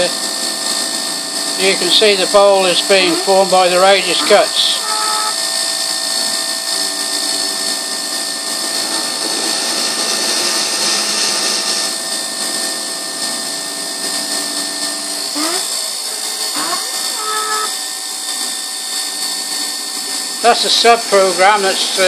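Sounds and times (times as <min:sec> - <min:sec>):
lathe whining and hissing: 0:00.0 - 0:22.0.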